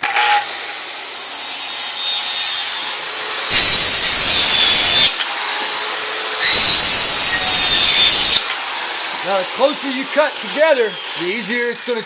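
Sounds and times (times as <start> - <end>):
circular saw cutting board: 0.0 - 12.0.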